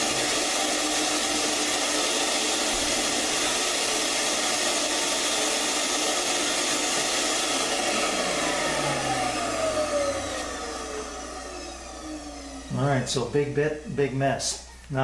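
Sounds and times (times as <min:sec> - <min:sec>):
power tool motor running: 0:00.0 - 0:13.9.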